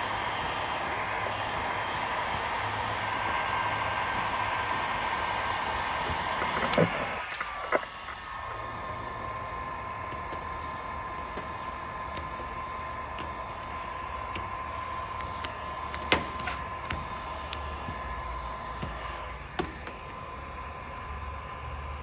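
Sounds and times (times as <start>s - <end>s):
heat gun fan whining: 0.0s - 22.0s.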